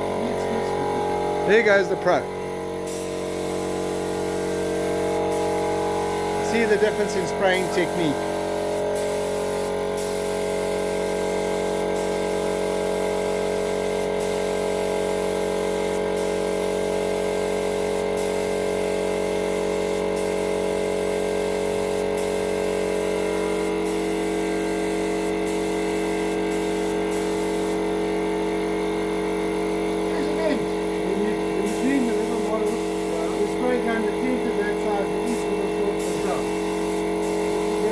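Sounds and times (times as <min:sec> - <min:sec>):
steady mechanical hum: 0:00.0 - 0:37.9
spray gun hissing: 0:02.8 - 0:28.7, 0:30.1 - 0:37.9.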